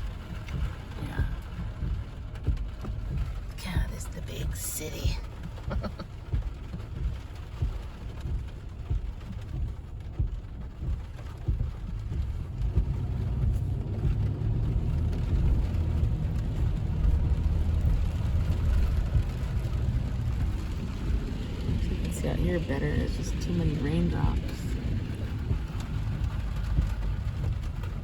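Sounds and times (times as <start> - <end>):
rain on car: 0.0 - 28.0
road and engine rumble: 0.0 - 28.0.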